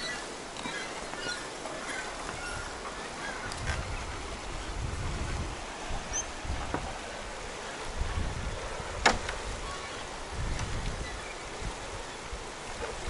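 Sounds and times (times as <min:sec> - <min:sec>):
river rushing over stones: 0:00.0 - 0:13.0
wind rumbling on microphone: 0:02.1 - 0:13.0.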